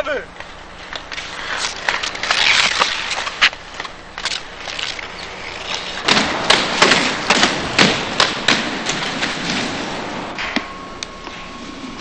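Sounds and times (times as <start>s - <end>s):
skate wheels rolling: 0.0s - 12.0s.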